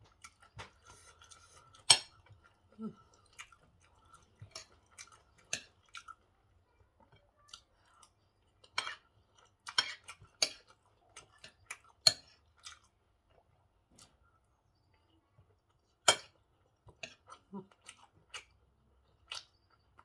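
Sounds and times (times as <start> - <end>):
person chewing food: 0.0 - 6.4, 7.1 - 14.6, 15.5 - 20.0.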